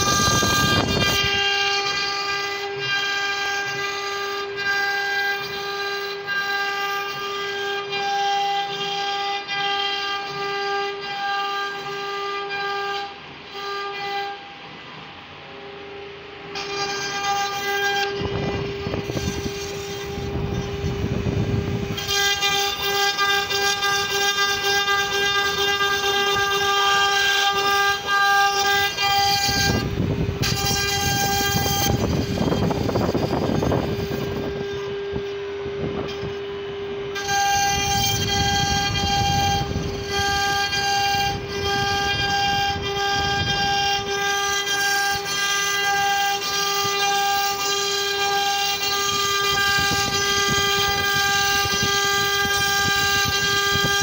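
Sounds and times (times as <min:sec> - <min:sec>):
rough wood cutting noise: 0:00.0 - 0:54.0
wood router whining: 0:00.0 - 0:54.0.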